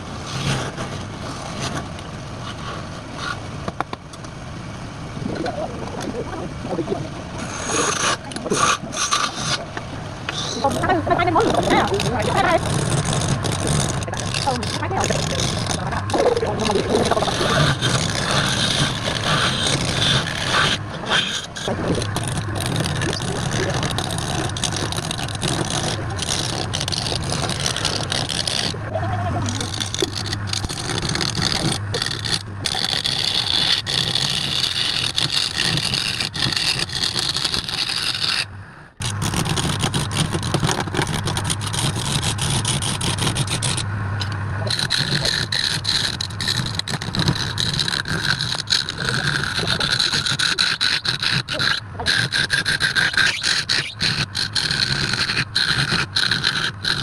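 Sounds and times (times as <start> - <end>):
turning tool scraping wood: 0.0 - 4.0, 7.4 - 57.0
wood lathe motor hum: 7.2 - 38.4, 39.0 - 57.0.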